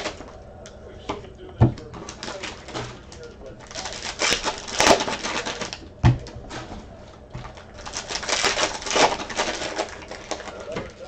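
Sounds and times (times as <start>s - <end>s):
crinkling of packaging wrappers: 0.0s - 11.0s.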